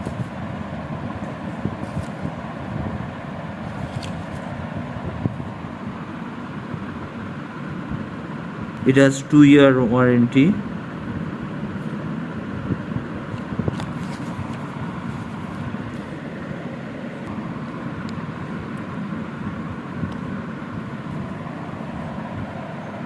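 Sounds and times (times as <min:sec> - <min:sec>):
steady background rumble and hiss: 0:00.0 - 0:23.0.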